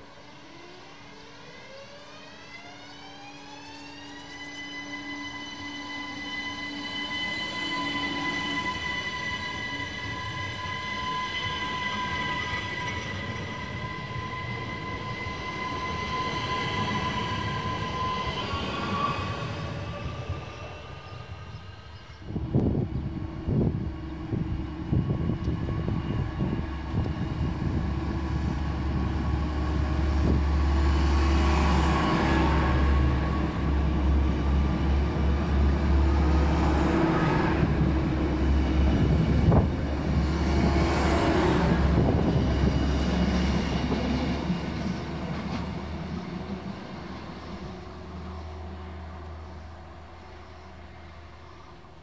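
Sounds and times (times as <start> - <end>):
rail and wheel noise: 0.0 - 52.0.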